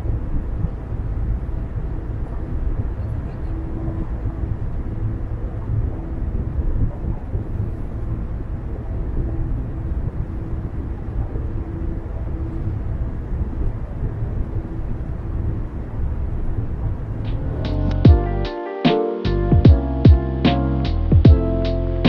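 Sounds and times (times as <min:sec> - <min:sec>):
car tyre and engine rumble: 0:00.0 - 0:18.1.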